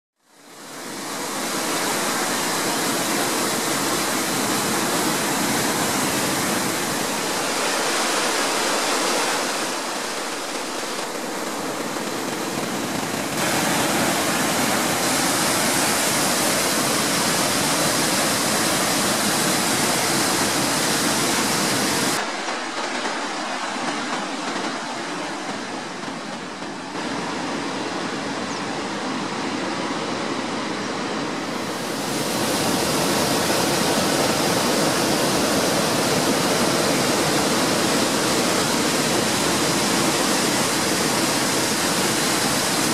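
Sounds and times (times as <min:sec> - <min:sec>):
waterfall and river rapids rushing: 0:00.2 - 0:42.9.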